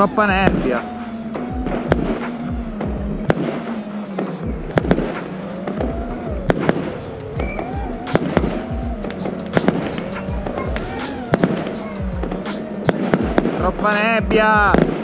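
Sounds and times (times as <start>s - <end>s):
fireworks bangs and cracks: 0.0s - 15.0s
steady hum: 0.0s - 15.0s.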